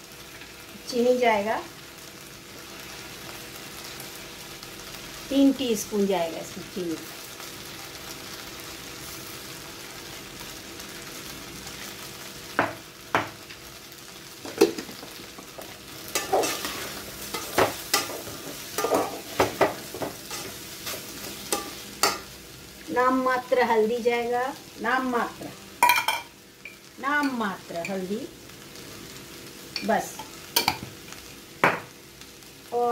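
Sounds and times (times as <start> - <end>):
rice sizzling in a pot: 0.0 - 32.9.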